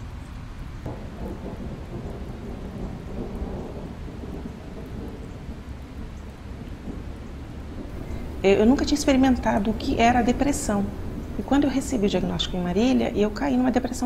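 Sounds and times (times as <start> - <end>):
steady rain falling: 0.0 - 14.0
thunder rumbling: 0.8 - 14.0.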